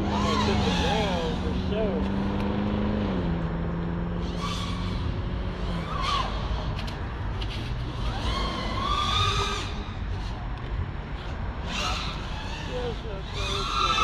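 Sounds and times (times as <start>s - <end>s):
quadcopter motors whining: 0.0s - 2.6s, 4.2s - 14.0s.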